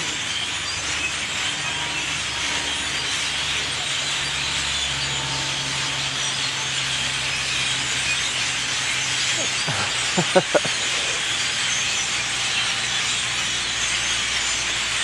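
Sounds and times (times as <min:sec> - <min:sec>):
bird flock chattering: 0:00.0 - 0:13.6.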